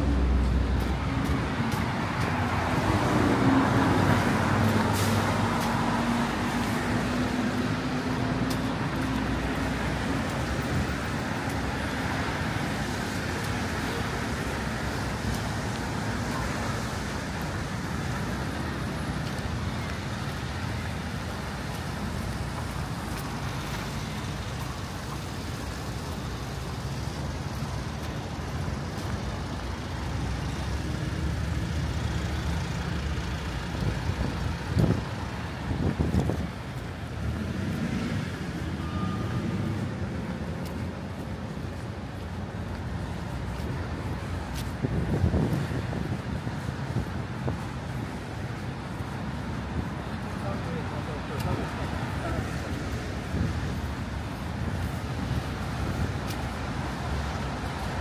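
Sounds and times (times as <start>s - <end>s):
road traffic passing: 0.0s - 58.0s
vehicle engine hum: 0.0s - 58.0s.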